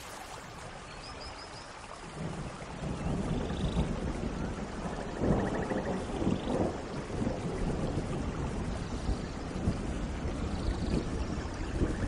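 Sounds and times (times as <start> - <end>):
steady rain: 0.0 - 12.0
thunder rumbling: 2.2 - 12.0.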